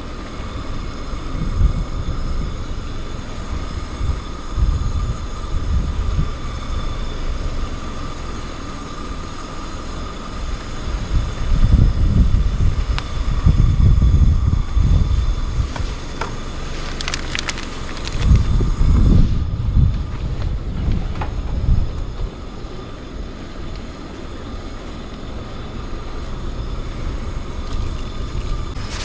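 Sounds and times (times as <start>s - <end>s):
faint steady whine: 0.0s - 29.0s
wind buffeting microphone: 0.0s - 29.0s.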